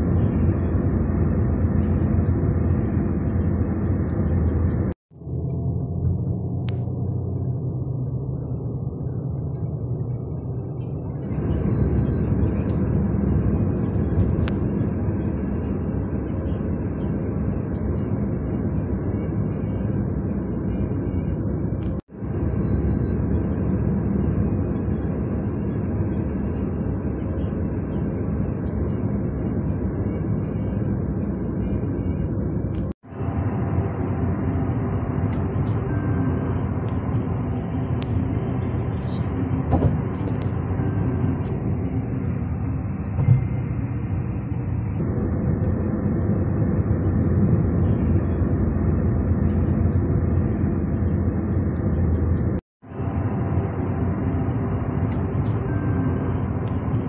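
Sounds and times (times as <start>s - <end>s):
car cabin road and engine noise: 0.0s - 57.0s.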